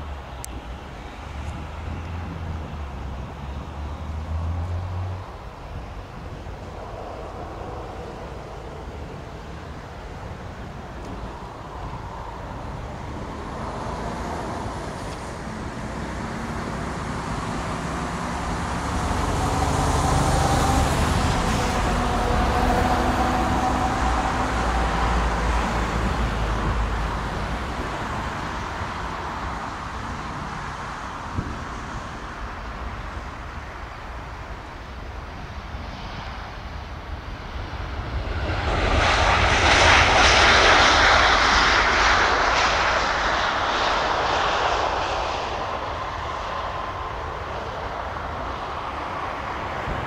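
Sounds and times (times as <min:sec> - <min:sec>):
jet engines rumbling and whining: 0:00.0 - 0:50.0.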